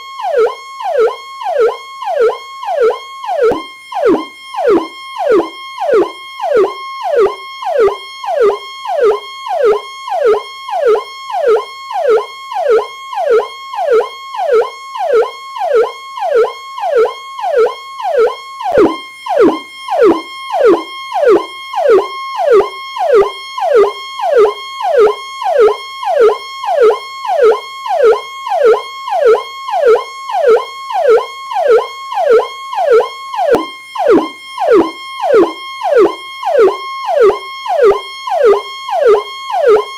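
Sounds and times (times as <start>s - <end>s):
police siren: 0.0s - 39.9s.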